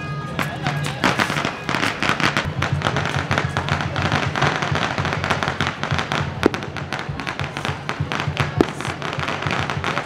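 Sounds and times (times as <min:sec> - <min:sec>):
firecrackers popping: 0:00.3 - 0:10.0.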